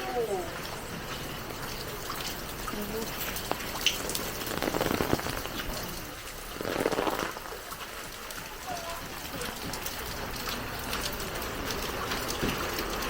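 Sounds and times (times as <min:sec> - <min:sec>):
water splashing and pouring: 0:00.0 - 0:13.0.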